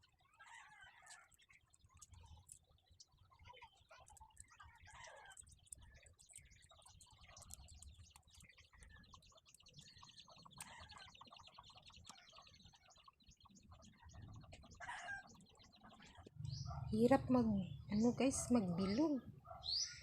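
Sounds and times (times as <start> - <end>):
faint birds chirping: 0.0 - 20.0
rapid bird trill: 0.0 - 20.0.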